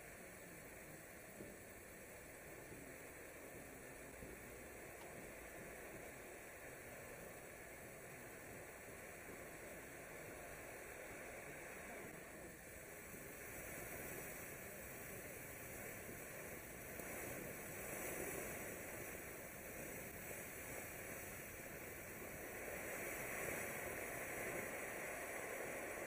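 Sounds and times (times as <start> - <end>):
firework fountain hissing: 0.0 - 26.0.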